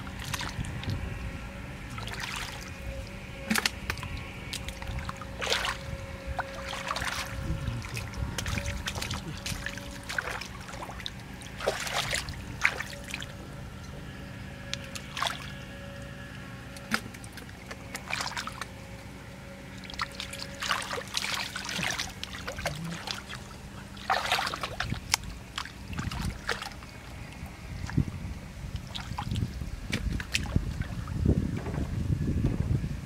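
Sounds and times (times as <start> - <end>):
faint steady hum: 0.0 - 33.0
splashing in muddy water: 0.1 - 1.0, 1.8 - 13.4, 14.7 - 15.7, 16.8 - 18.9, 19.6 - 31.1.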